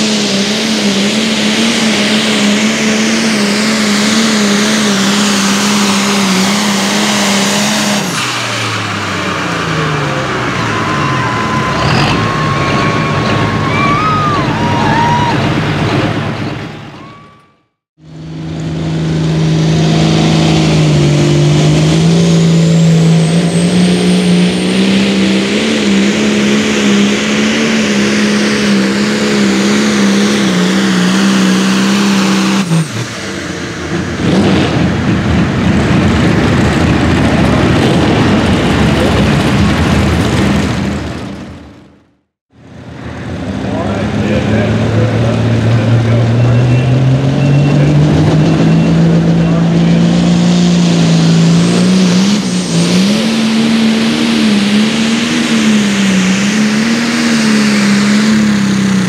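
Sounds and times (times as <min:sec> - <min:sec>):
tractor engines at full throttle: 0:00.0 - 0:59.0.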